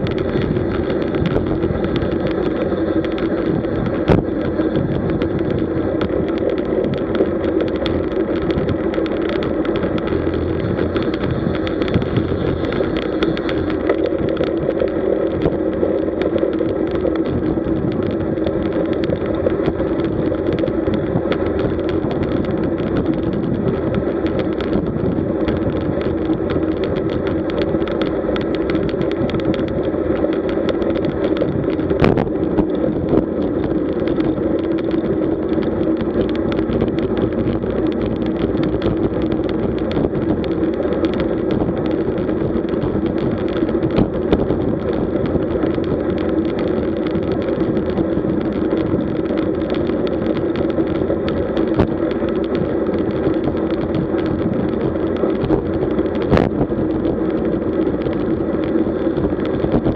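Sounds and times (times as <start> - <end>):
bicycle tyre noise: 0.0 - 59.9
wind rush: 0.0 - 59.9.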